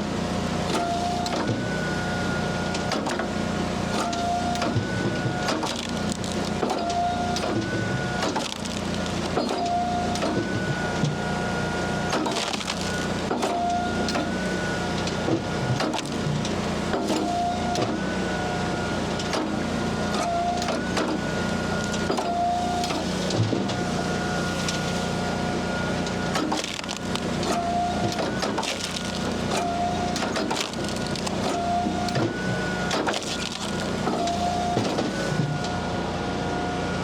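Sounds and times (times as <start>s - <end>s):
hydraulic log splitter whining: 0.0s - 37.0s
wood cracking and splitting: 4.0s - 17.9s, 19.2s - 35.4s.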